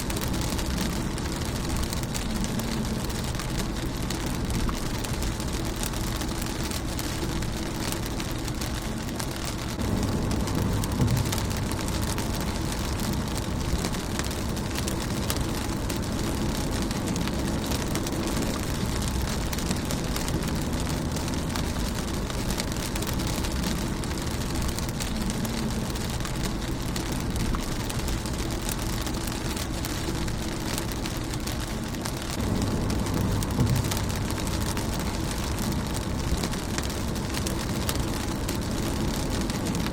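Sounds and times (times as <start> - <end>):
low rumble: 0.0 - 39.9
rain pattering on windshield: 0.0 - 39.9.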